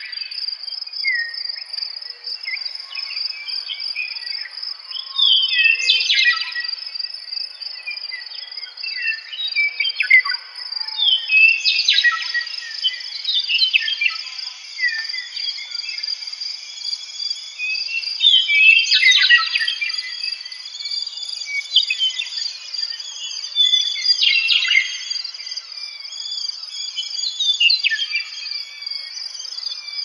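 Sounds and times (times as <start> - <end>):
birds singing slurred whistles: 0.0 - 30.0.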